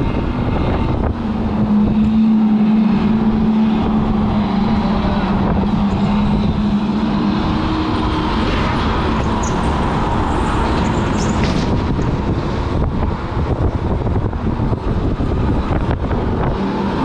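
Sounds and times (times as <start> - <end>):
rushing rumble: 0.0 - 17.0.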